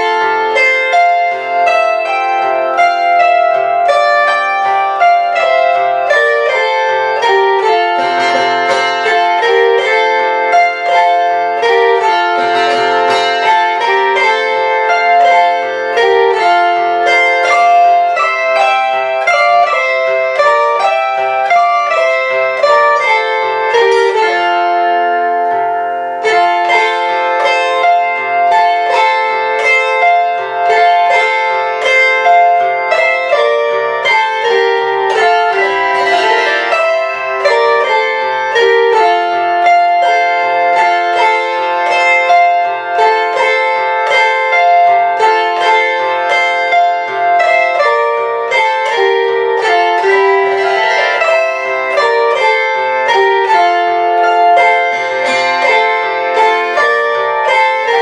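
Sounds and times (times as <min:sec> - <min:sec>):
plucked zither waltz: 0:00.0 - 0:58.0.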